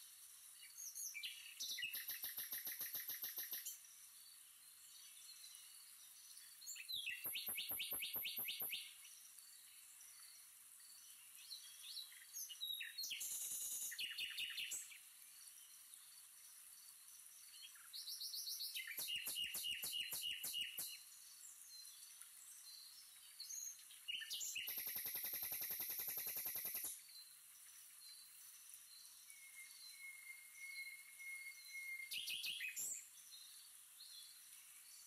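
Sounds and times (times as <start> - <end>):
faint background noise: 0.0 - 35.0
small birds chirping: 0.0 - 35.0.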